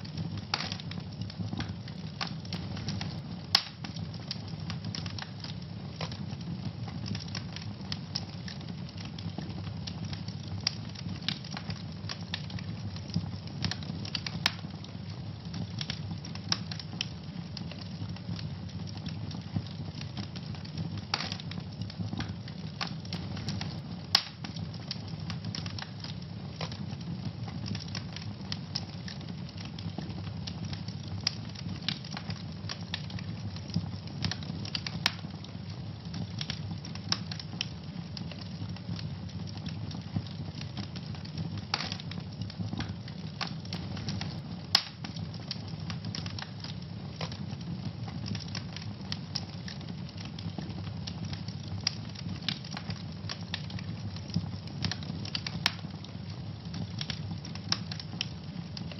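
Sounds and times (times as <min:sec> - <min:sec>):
loud fire pops: 0:00.0 - 0:58.9
low rumble of flame: 0:00.0 - 0:58.9
wood fire crackling: 0:00.0 - 0:58.9.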